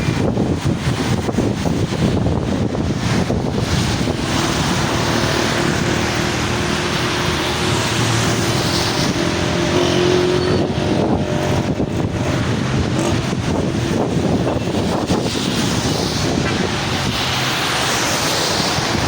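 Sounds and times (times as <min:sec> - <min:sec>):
vehicle on wet road: 0:00.0 - 0:19.0
wind on microphone: 0:00.0 - 0:19.0.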